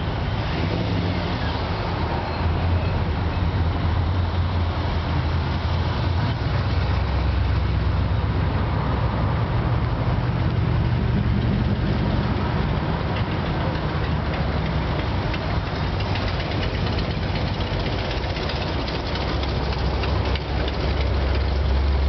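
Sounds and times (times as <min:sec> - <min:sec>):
car engines passing slowly: 0:00.0 - 0:22.0.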